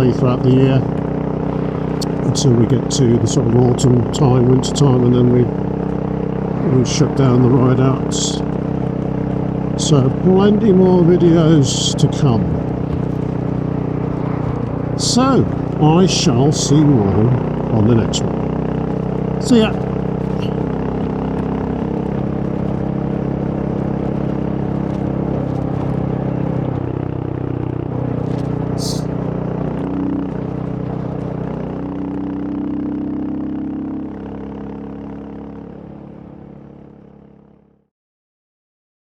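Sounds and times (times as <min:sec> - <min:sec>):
motorcycle engine running: 0:00.0 - 0:37.8.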